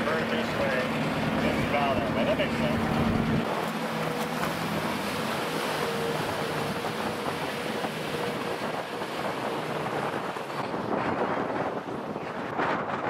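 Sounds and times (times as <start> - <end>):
churning wake water: 0.0 - 13.0
faint boat engine: 0.0 - 13.0
wind buffeting microphone: 0.0 - 13.0.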